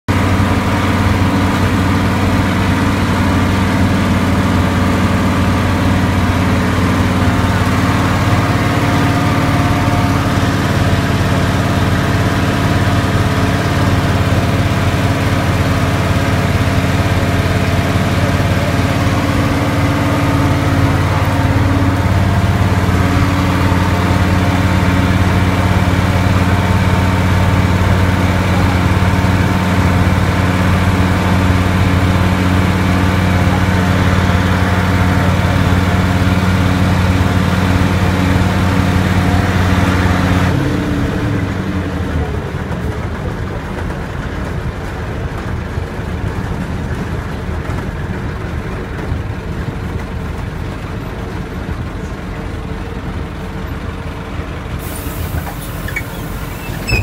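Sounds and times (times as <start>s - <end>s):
bus engine droning: 0.0s - 57.0s.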